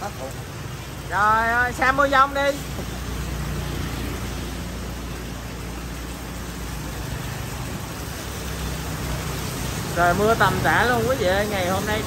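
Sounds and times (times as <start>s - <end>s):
heavy rain pouring: 0.0s - 12.0s
passing traffic rumble: 0.0s - 12.0s.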